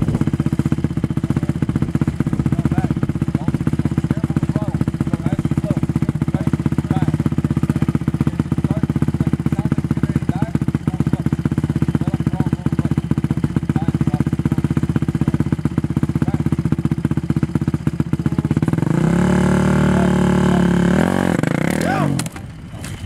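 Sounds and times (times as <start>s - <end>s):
dirt bike engine idling and revving: 0.0s - 23.0s.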